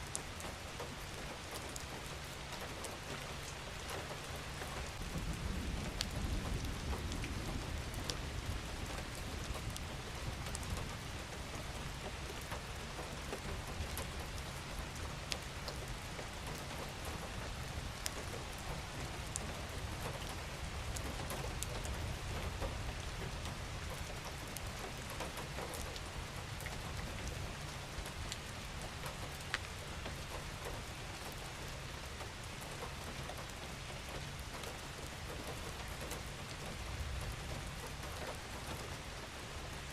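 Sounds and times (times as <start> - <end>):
raindrops ticking: 0.0 - 39.2
rain hissing on a surface: 0.0 - 39.9.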